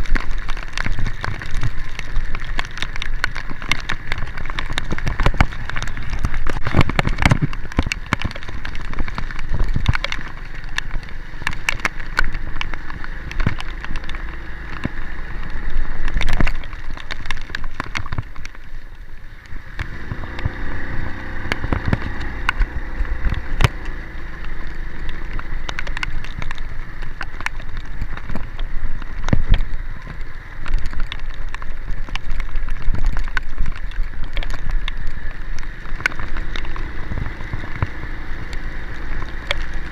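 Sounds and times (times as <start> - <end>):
heavy rain: 0.0 - 39.9
vehicle rumbling on rough road: 0.0 - 39.9.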